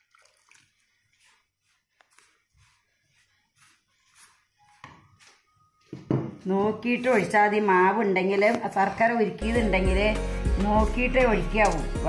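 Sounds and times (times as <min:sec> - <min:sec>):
hand mixing dough in steel pot: 0:00.0 - 0:05.5, 0:06.5 - 0:12.0.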